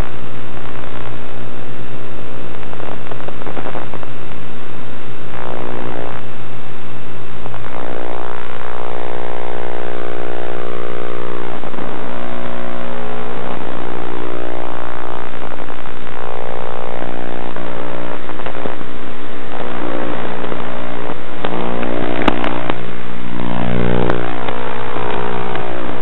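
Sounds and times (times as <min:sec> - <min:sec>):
model airplane buzzing drone: 0:00.0 - 0:26.0.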